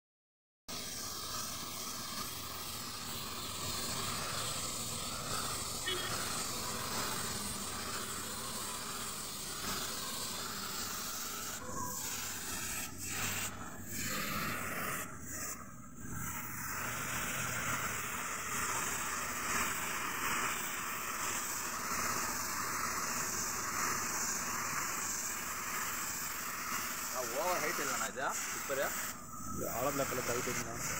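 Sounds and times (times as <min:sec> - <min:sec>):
spray gun hissing: 0:00.7 - 0:30.9.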